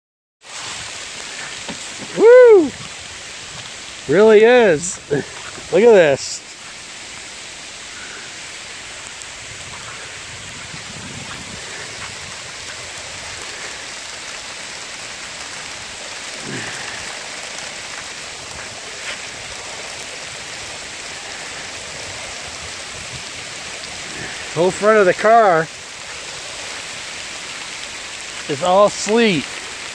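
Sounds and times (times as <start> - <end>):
sleet and hail pattering: 3.5 - 6.8, 7.9 - 29.9.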